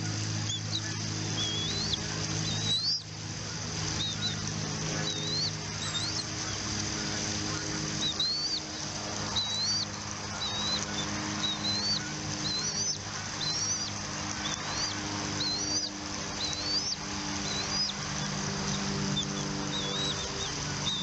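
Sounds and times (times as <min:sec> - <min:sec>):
eagle chirping calls: 0:00.0 - 0:08.7, 0:09.3 - 0:21.0
steady low hum: 0:00.0 - 0:21.0.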